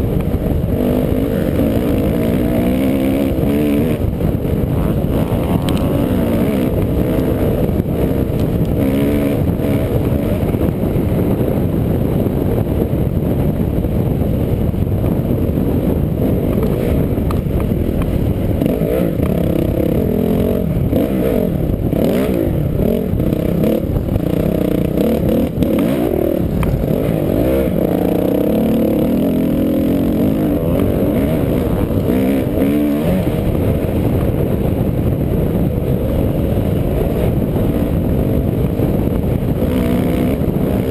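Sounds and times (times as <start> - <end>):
off-road vehicle engine revving: 0.0 - 11.2, 16.2 - 35.2, 35.8 - 40.9.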